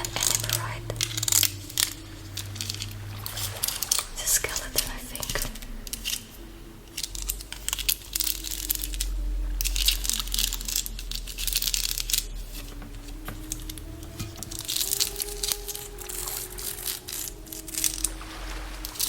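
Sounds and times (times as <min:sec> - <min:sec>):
crackling crinkling: 0:00.0 - 0:19.0
low steady rumble: 0:00.0 - 0:19.0
soft wavering hummed tone: 0:00.0 - 0:19.0.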